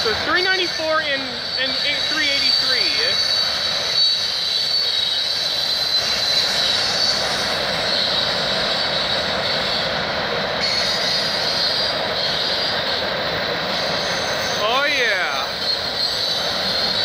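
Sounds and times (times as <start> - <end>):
high ringing whine: 0.0 - 17.0
train wheels rumbling on rails: 0.0 - 17.0.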